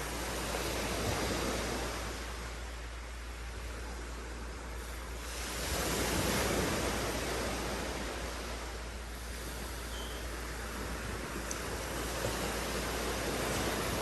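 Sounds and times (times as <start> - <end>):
wind blowing: 0.0 - 14.0.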